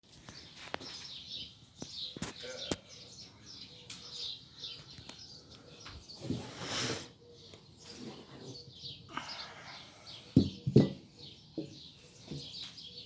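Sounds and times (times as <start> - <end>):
songbirds chirping and singing: 0.1 - 13.0.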